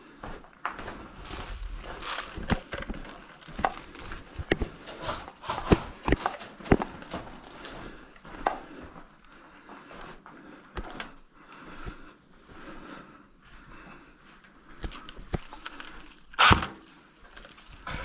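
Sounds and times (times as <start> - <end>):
irregular footsteps: 0.0 - 18.0.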